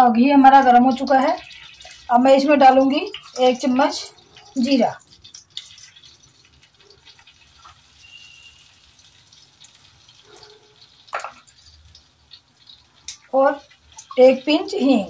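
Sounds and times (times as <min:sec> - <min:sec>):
seeds sizzling in butter: 0:00.8 - 0:15.0.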